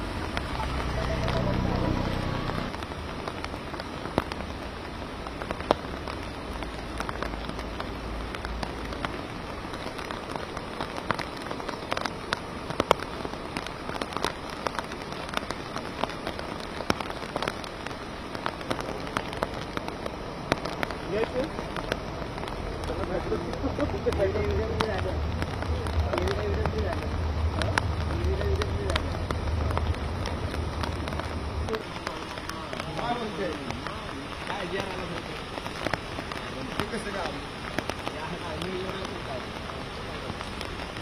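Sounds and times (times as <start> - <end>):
heavy rain falling: 0.0 - 41.0
raindrops tapping close by: 0.0 - 41.0.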